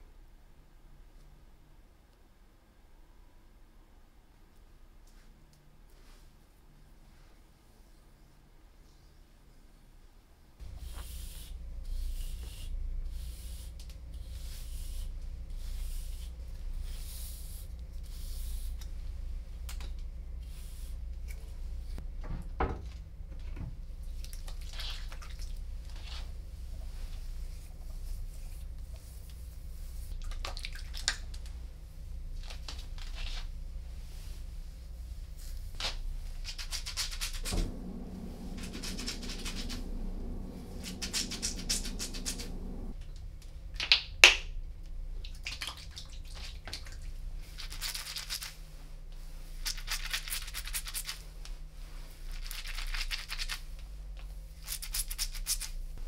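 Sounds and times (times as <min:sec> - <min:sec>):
low steady hum: 0:00.0 - 0:47.8.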